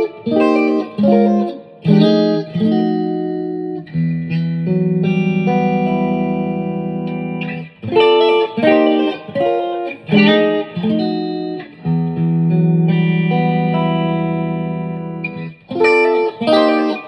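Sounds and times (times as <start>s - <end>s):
electric guitar chords through amplifier: 0.0s - 17.0s.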